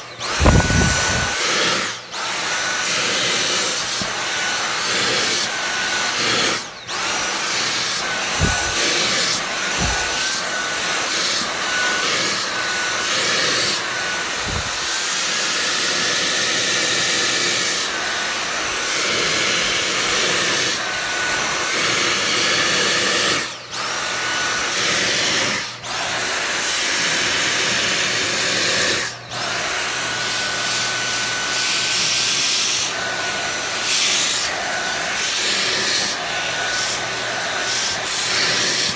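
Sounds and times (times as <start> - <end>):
vacuum motor whine: 0.0 - 38.9.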